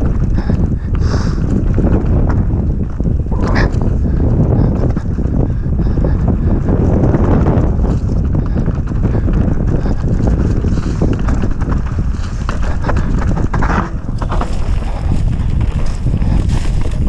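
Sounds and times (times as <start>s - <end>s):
bike rattling over bumps: 0.0s - 17.0s
wind rushing over microphone: 0.0s - 17.0s.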